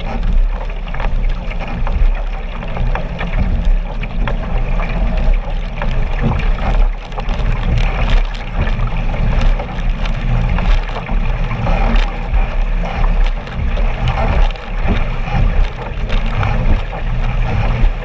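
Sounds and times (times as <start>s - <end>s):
paddle splashing: 0.0s - 18.0s
water splashing and slapping: 0.0s - 18.0s
wind rumbling on microphone: 0.0s - 18.0s.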